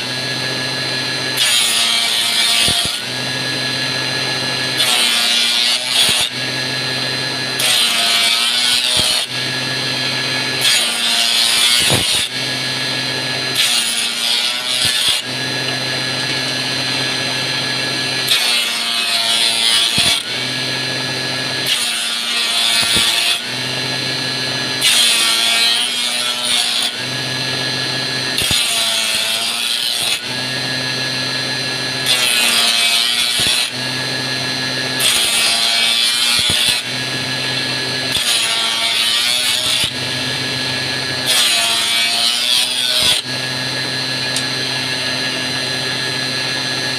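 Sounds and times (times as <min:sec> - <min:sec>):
cutter rasping on wood: 0:00.0 - 0:46.9
wood-turning machine humming: 0:00.0 - 0:46.9.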